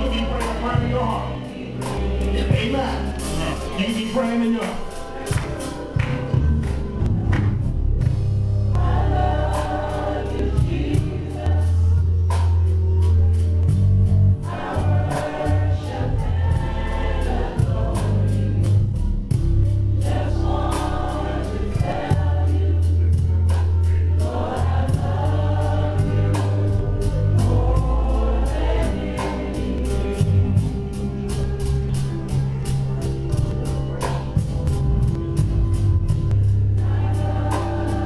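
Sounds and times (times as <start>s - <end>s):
choir singing: 0.0s - 35.4s, 36.7s - 38.0s
bass line: 0.0s - 38.0s
steady drum beat: 0.0s - 38.0s.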